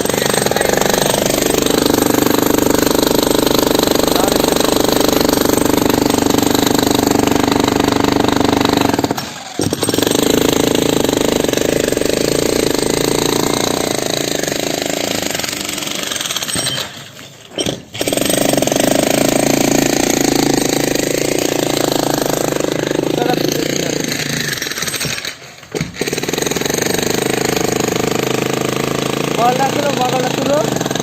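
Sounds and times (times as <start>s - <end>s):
jackhammer hammering concrete: 0.0s - 31.0s.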